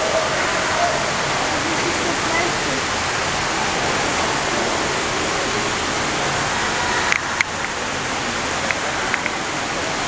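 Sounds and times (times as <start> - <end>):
water churning and splashing: 0.0 - 10.0.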